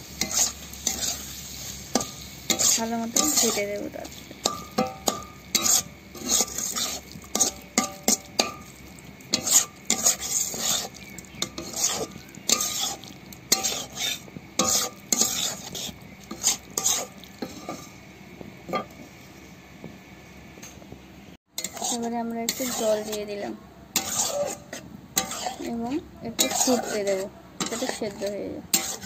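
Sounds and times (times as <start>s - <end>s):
spatula scraping a pan: 0.0s - 18.0s, 21.6s - 29.0s
food sizzling: 0.0s - 20.4s, 21.6s - 29.0s.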